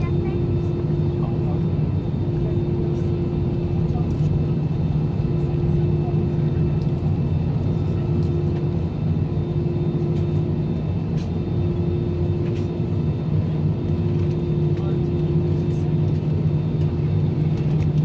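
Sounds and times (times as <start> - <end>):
airplane cabin rumble: 0.0 - 18.0
constant hum: 0.0 - 18.0.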